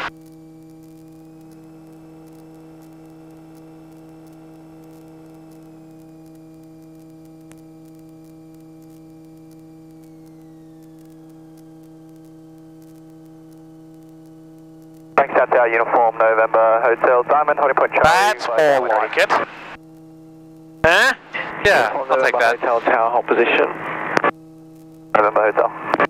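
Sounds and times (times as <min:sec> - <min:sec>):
intercom electrical hum and static: 0:00.0 - 0:26.0.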